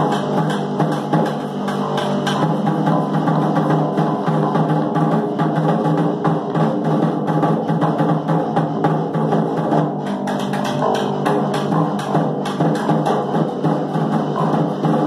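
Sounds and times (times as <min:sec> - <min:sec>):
snare drum beat: 0:00.0 - 0:07.1, 0:07.9 - 0:15.0.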